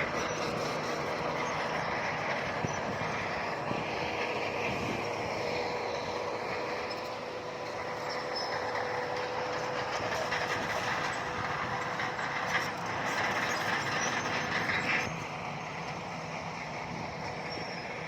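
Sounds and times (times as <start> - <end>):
bulldozer engine whine: 0.0 - 18.0
crawler tracks clanking and squealing: 0.0 - 18.0.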